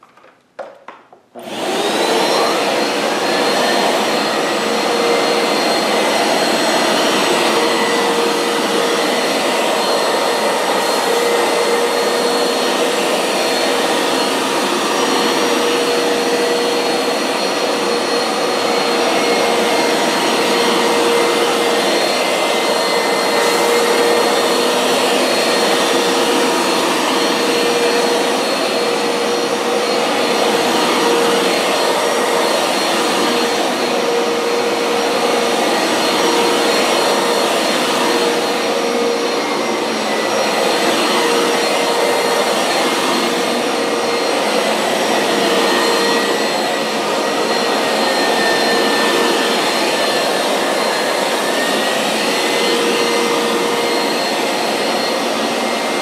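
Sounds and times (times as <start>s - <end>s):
carpet washer motor whining: 1.4s - 56.0s.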